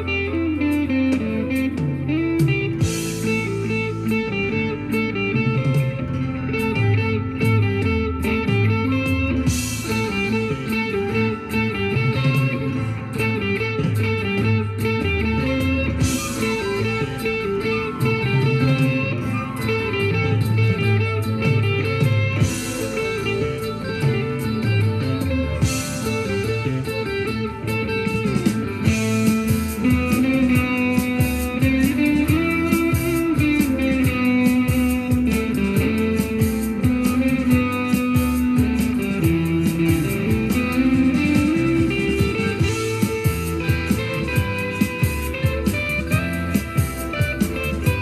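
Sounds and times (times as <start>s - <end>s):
electric guitar lead lines: 0.0s - 48.0s
steady rhythmic pulse: 0.0s - 48.0s.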